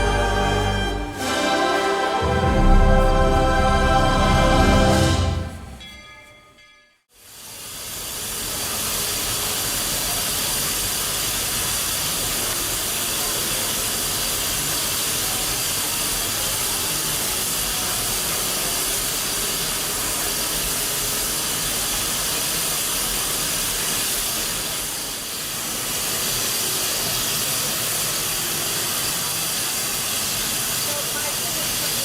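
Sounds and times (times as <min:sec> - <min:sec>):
steam locomotive venting steam: 0:00.0 - 0:06.0, 0:07.2 - 0:32.0.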